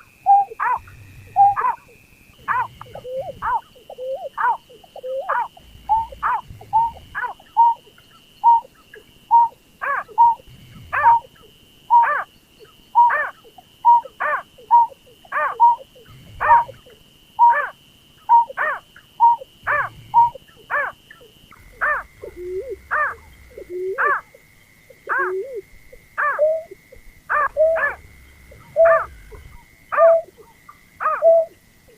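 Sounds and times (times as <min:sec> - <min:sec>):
steady high whine: 0:00.0 - 0:31.9.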